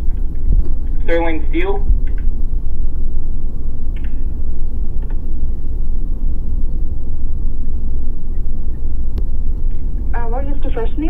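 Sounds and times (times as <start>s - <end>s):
loud low rumble: 0.0s - 11.0s.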